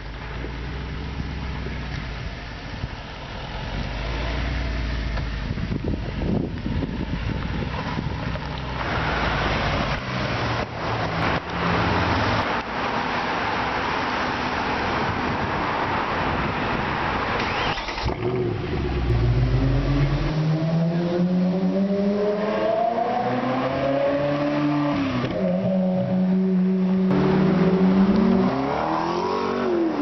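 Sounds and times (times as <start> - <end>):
traffic and road noise: 0.0 - 30.0.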